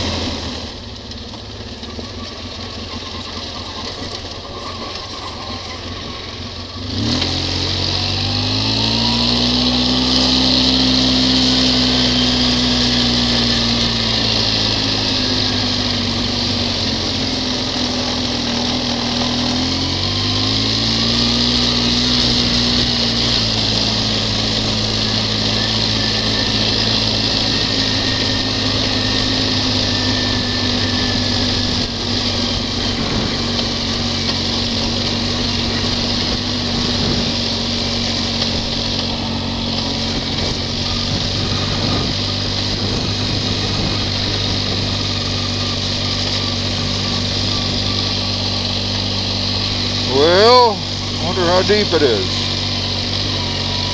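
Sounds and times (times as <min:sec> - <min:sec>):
atv engine revving: 0:00.0 - 0:53.9.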